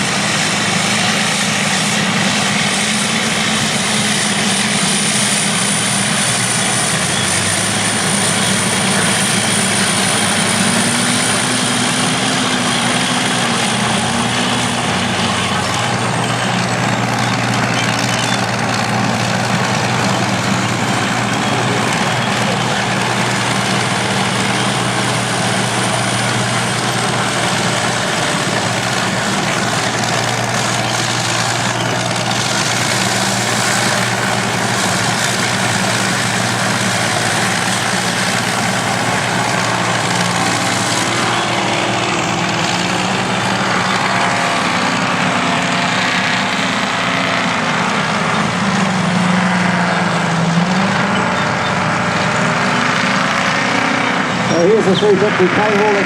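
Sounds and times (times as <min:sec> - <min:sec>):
heavy machine engines: 0:00.0 - 0:56.0.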